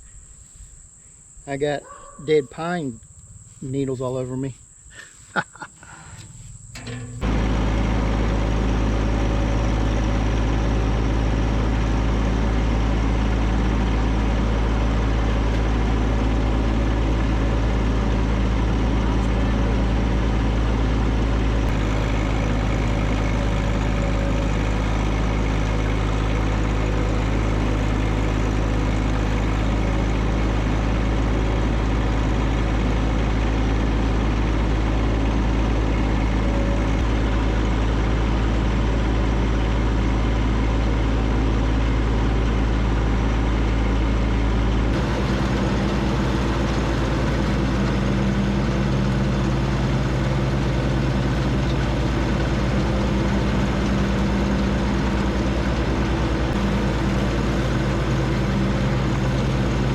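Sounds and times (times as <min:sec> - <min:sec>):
tractor diesel engine running: 0:01.2 - 0:59.9.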